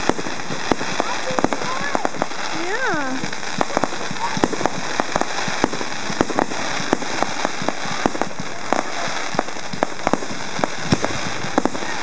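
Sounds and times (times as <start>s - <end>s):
fireworks popping and banging: 0.0s - 12.0s
steady hiss: 0.0s - 12.0s.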